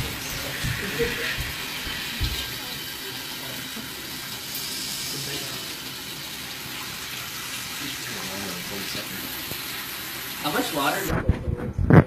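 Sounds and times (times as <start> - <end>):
water spraying inside dishwasher: 0.0 - 11.6.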